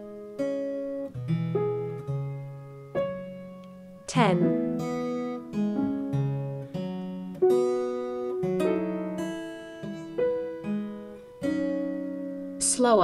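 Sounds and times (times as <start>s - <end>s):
grand piano: 0.0s - 12.6s
acoustic guitar: 0.0s - 13.0s.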